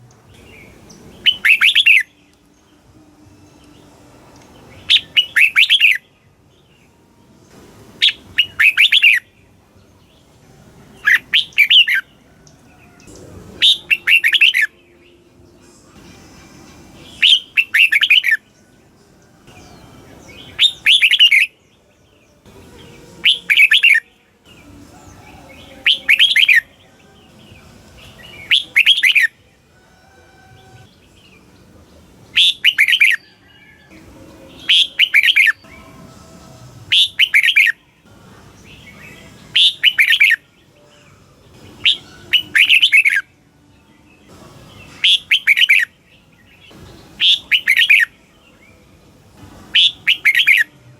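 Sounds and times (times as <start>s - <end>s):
bulbul singing: 0.0s - 50.9s.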